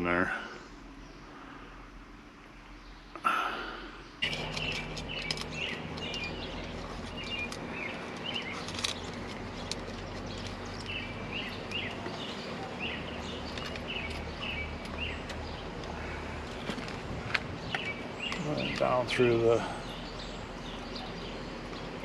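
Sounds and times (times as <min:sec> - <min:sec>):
outdoor background noise: 0:00.0 - 0:22.0
small birds chirping: 0:00.0 - 0:22.0.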